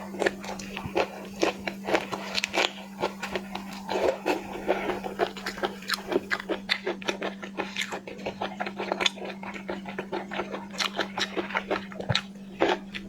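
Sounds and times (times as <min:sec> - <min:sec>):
chewing seafood crunches: 0:00.0 - 0:13.0.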